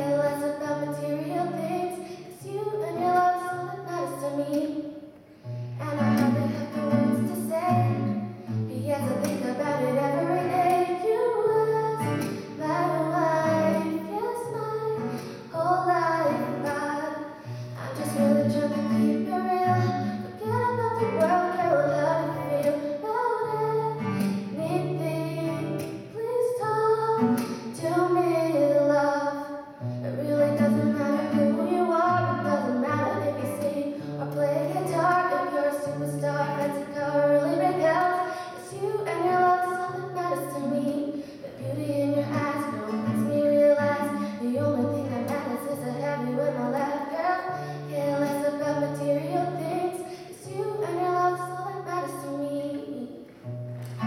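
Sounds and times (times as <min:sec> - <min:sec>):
acoustic guitar: 0:00.0 - 0:54.0
young woman singing: 0:00.0 - 0:54.0.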